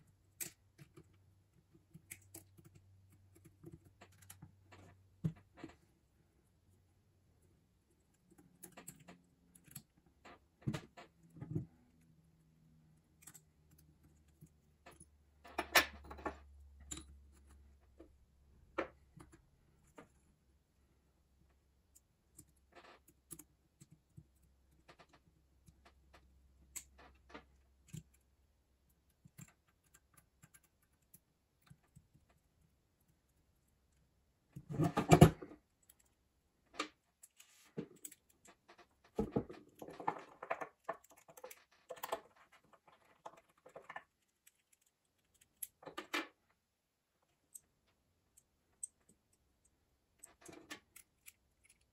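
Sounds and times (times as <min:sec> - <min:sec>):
small metal clicks and scrapes: 0:00.0 - 0:05.8, 0:08.0 - 0:12.3, 0:12.9 - 0:18.1, 0:21.9 - 0:46.5, 0:47.2 - 0:51.9.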